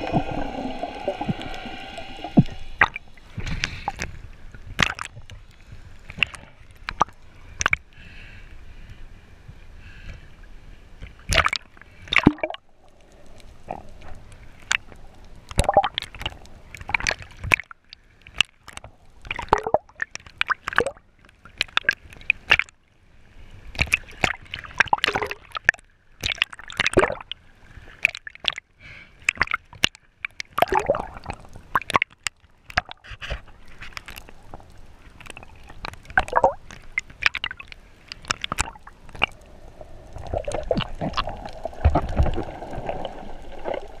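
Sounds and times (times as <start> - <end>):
water splashing and sloshing: 0.0 - 8.0, 8.8 - 44.0.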